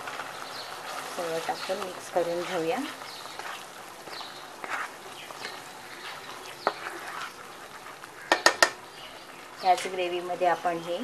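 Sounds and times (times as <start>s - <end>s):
spatula scraping and squelching in pan: 0.8s - 10.1s.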